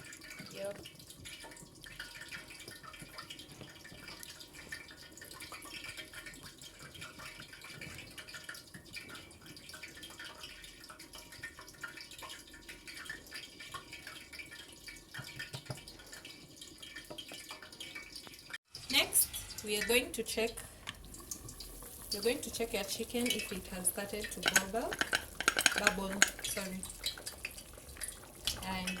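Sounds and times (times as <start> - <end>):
liquid bubbling in a pot: 0.0 - 29.0.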